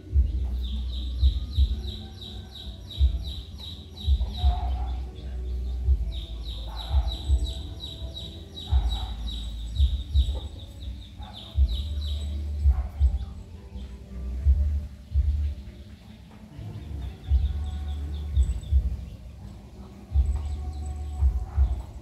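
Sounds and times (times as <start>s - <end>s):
low thumps and rumbling: 0.0s - 2.0s, 2.9s - 15.7s, 16.5s - 22.0s
bird chirping: 0.0s - 22.0s.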